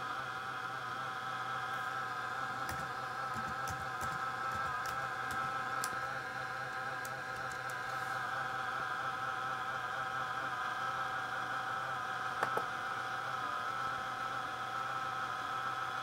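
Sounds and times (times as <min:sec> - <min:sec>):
laptop fan whining: 0:00.0 - 0:16.0.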